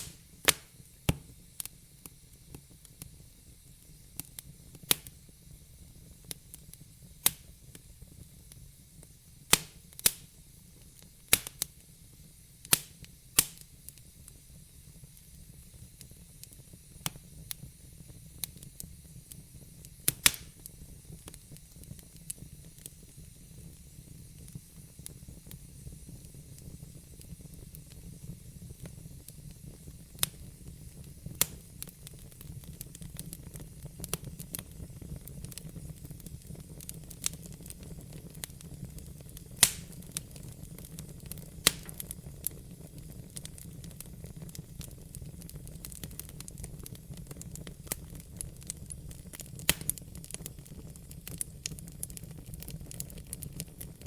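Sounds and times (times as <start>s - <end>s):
fireplace fire crackling: 0.0s - 54.0s
sharp pops from fire: 0.0s - 54.0s.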